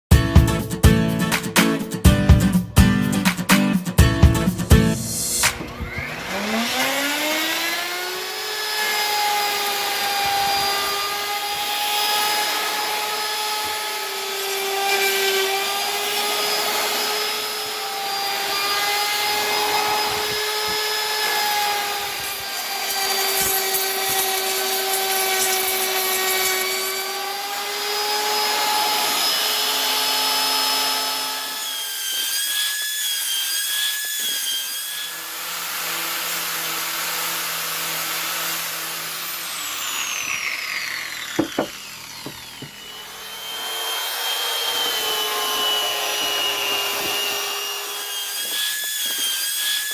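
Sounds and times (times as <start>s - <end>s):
router cutting wood: 4.5s - 49.9s
wood router motor whine: 5.1s - 49.9s.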